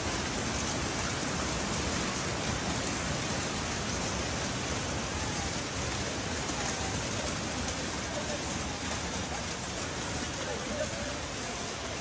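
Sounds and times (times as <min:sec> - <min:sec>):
hail pelting a roof: 0:00.0 - 0:12.0.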